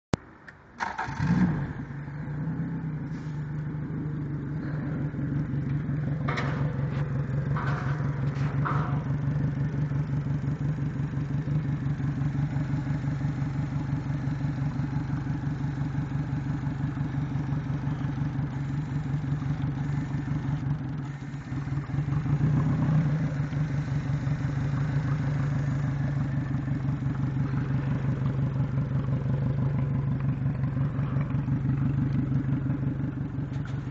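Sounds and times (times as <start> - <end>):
outboard motor idling: 4.2 - 33.9.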